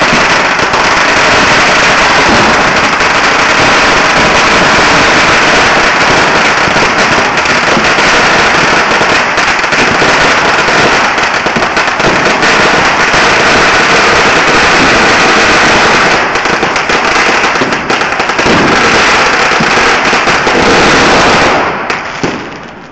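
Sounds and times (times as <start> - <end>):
firecrackers crackling: 0.0 - 22.9.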